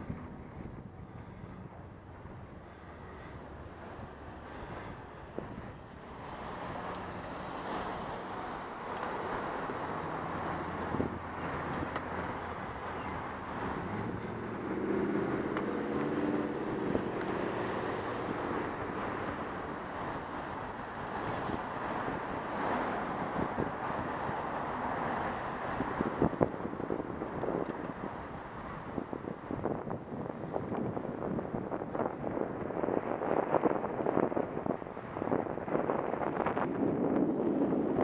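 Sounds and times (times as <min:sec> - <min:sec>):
cars passing: 0:00.0 - 0:38.0
wind rushing over microphone: 0:00.0 - 0:38.0.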